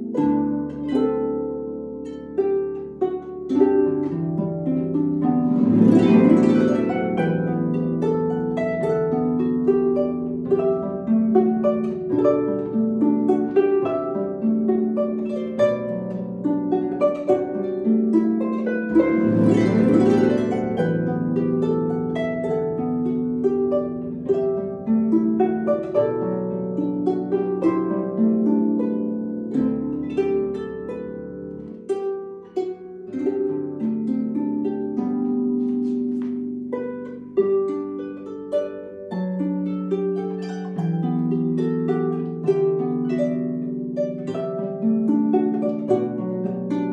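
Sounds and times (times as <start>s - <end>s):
harp glissando sweep: 0.0s - 46.9s
harp playing melody: 0.0s - 46.9s.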